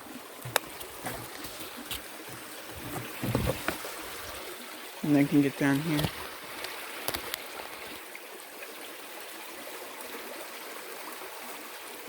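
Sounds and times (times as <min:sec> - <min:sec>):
stream water flowing over rocks: 0:00.0 - 0:12.0.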